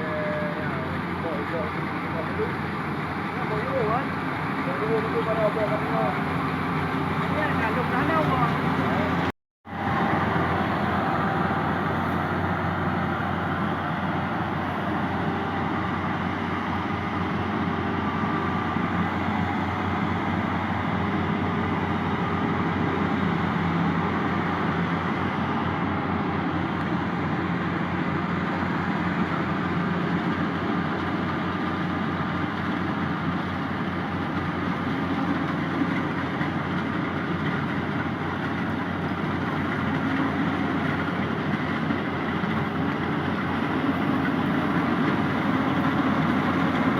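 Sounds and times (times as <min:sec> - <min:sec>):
diesel engine and machinery running: 0:00.0 - 0:46.9.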